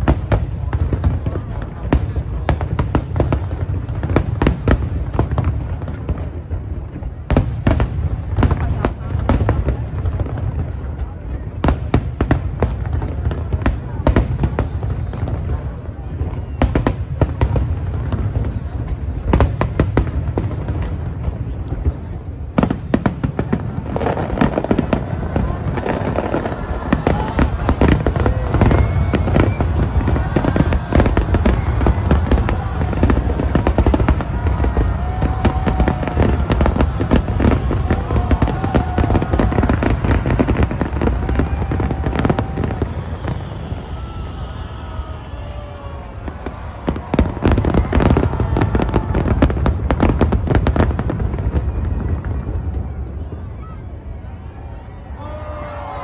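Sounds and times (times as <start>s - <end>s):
fireworks bursts rumbling: 0.0s - 56.0s
fireworks cracks and crackles: 0.0s - 56.0s.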